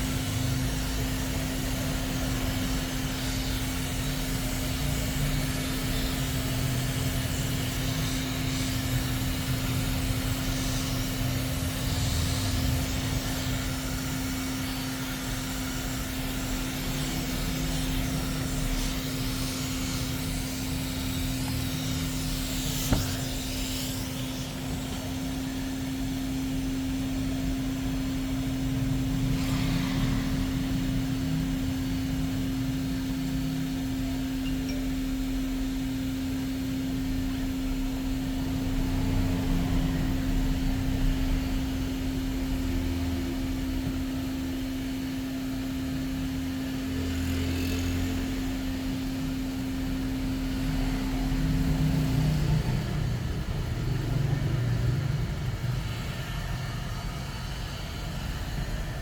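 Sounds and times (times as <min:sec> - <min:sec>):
machine hum with hiss: 0:00.0 - 0:59.0.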